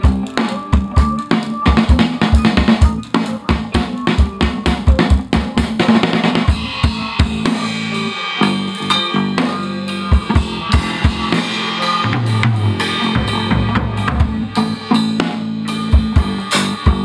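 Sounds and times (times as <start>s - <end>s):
drum kit playing a groove: 0.0s - 17.0s
guitar playing along: 0.0s - 17.0s.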